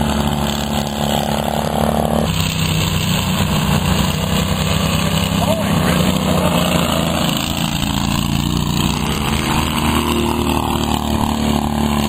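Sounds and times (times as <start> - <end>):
lawn mower engines running: 0.0 - 12.0.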